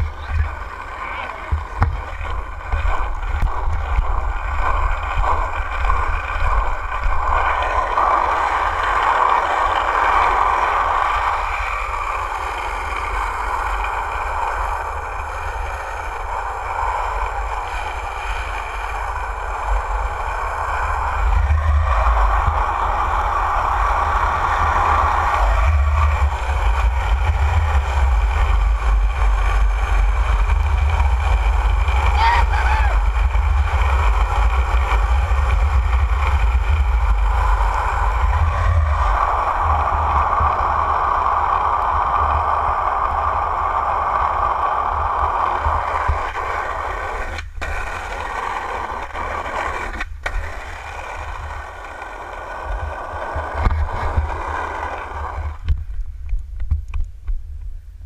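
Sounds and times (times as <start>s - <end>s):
skateboard wheels rolling on asphalt: 0.0s - 58.0s
wind buffeting microphone: 0.0s - 58.0s.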